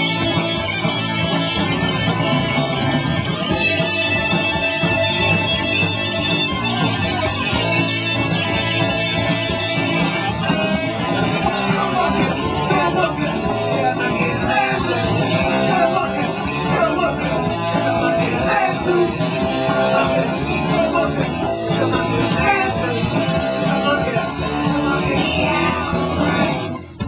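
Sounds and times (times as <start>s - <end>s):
bass guitar: 0.0s - 27.0s
drums: 0.0s - 27.0s
electric guitar: 0.0s - 27.0s.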